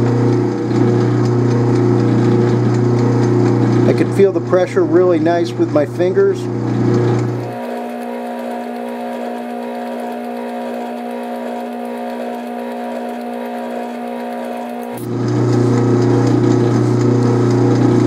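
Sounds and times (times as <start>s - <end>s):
metal lathe motor humming: 0.0s - 18.0s.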